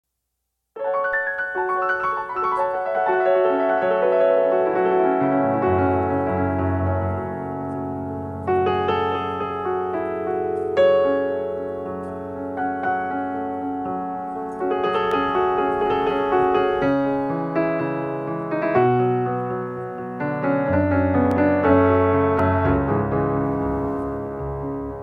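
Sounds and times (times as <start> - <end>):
slow piano chords: 0.8 - 25.0.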